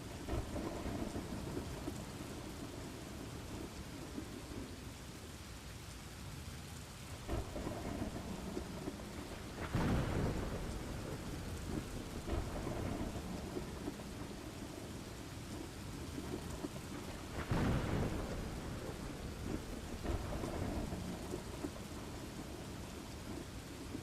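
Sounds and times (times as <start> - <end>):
steady rain: 0.0 - 24.0
thunder rumbling and cracking: 0.2 - 4.8, 7.2 - 24.0.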